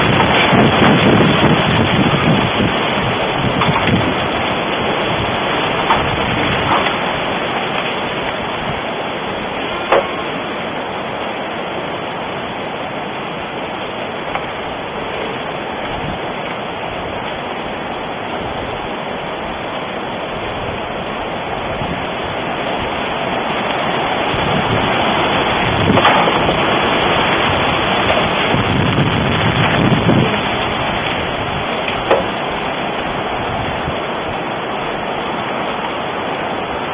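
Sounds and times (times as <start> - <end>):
low buffeting gusts: 0.0 - 36.9
wind blowing across microphone: 0.0 - 36.9.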